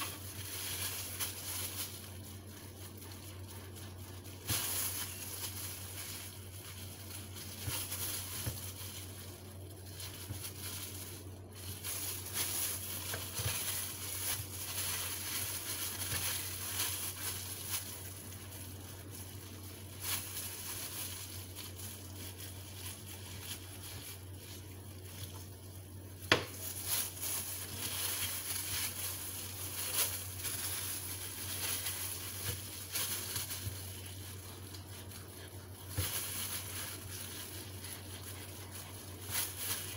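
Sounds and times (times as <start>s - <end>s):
low steady hum: 0.0s - 39.9s
plastic gloves crinkling: 0.0s - 39.9s.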